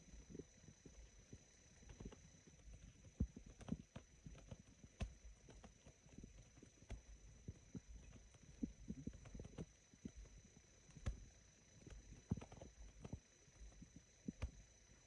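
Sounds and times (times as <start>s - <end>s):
stomach gurgles: 0.0s - 14.8s.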